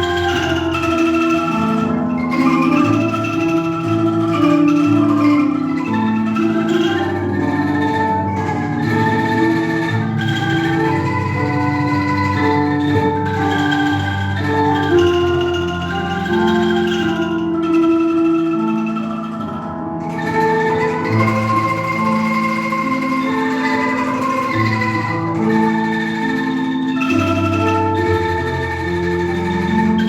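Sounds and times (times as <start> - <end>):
angklung ensemble playing: 0.0 - 30.0.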